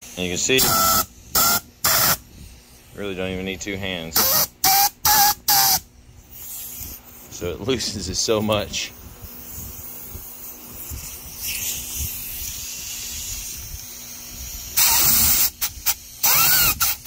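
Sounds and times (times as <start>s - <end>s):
air blow gun hissing: 0.0s - 3.1s, 4.2s - 7.5s, 8.2s - 17.0s.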